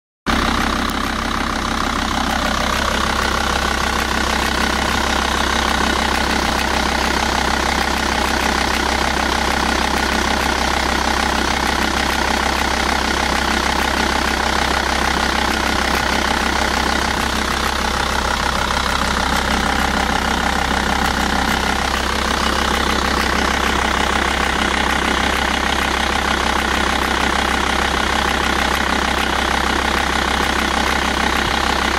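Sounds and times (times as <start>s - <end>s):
diesel engine running with rattle: 0.3s - 31.9s.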